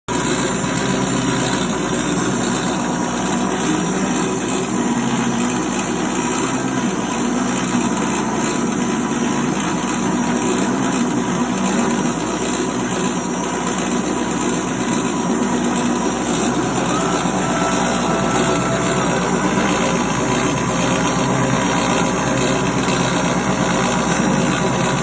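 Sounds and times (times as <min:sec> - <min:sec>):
lathe machine hum: 0:00.1 - 0:25.0.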